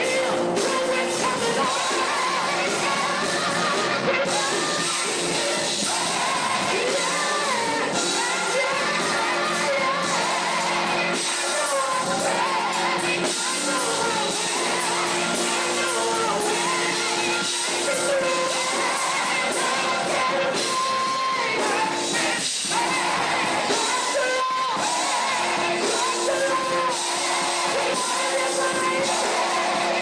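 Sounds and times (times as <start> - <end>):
gospel vocal group singing: 0.0 - 30.0.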